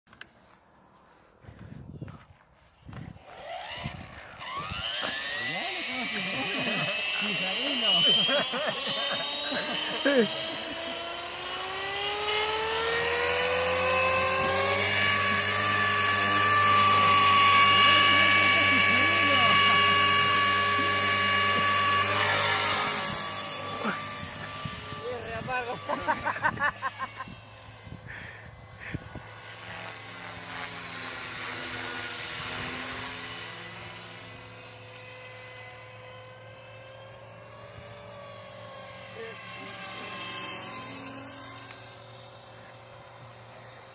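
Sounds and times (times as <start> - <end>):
rc helicopter rotor whining: 1.6 - 43.9.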